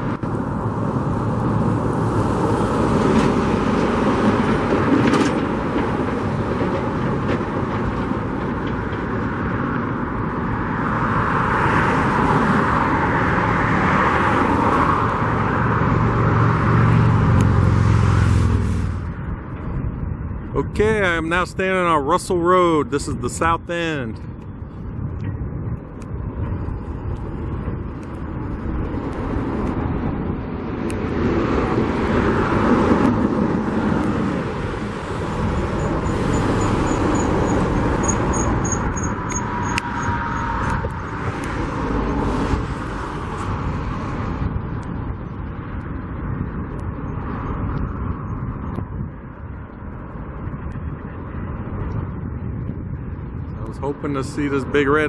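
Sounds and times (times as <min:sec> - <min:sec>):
cars passing: 0:00.0 - 0:55.0
steady traffic hum: 0:00.0 - 0:55.0.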